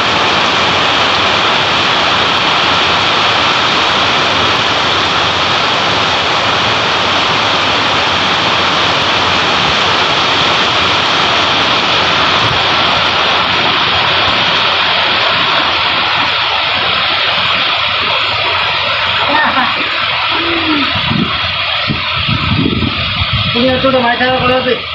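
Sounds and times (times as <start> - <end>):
heavy rain on concrete roof: 0.0 - 24.9.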